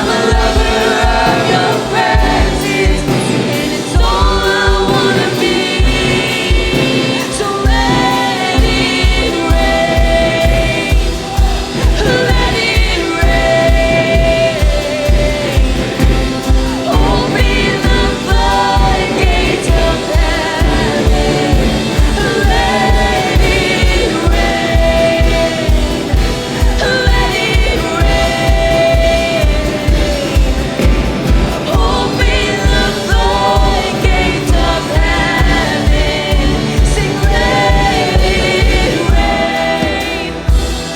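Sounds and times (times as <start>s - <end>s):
band playing: 0.0s - 40.9s
singers holding long notes: 0.0s - 40.9s
kick drum beat: 7.7s - 40.9s.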